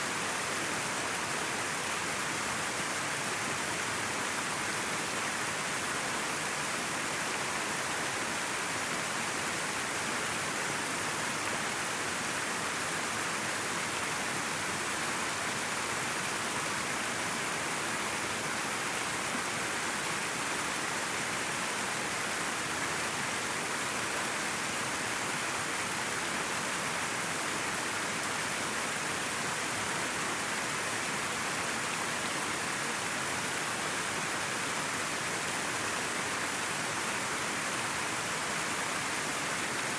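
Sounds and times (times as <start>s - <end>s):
river water rushing: 0.1s - 39.9s.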